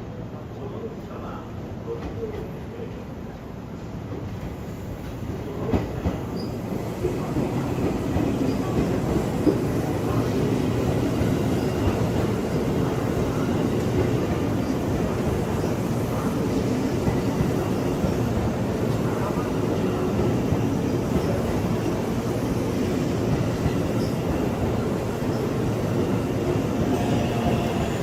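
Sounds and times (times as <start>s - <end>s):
train wheels clacking on rails: 4.0s - 28.0s.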